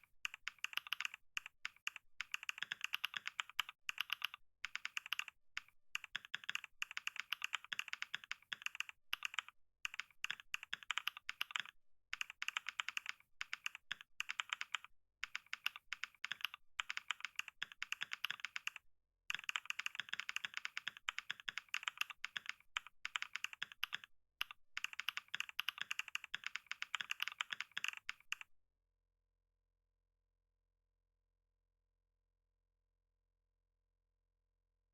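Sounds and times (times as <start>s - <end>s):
keyboard typing: 0.0s - 28.5s.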